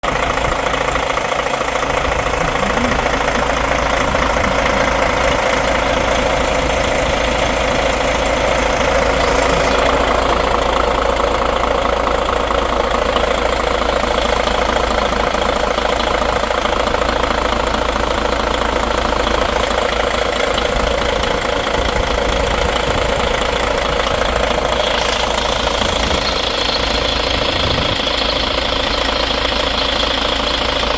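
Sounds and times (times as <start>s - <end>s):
bus diesel engine idling: 0.0s - 30.9s.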